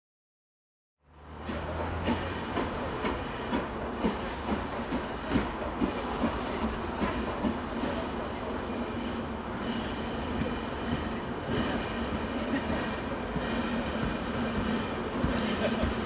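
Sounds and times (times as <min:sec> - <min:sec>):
steam locomotive chuffing: 0:01.1 - 0:16.0
steady steam hiss: 0:02.0 - 0:16.0.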